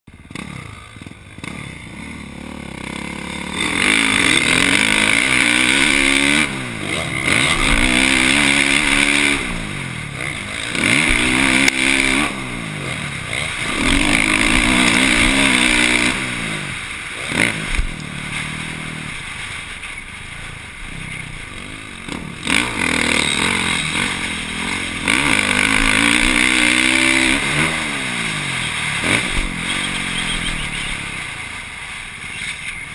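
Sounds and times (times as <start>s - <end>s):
motocross engine revving: 0.1s - 19.6s, 20.4s - 31.8s.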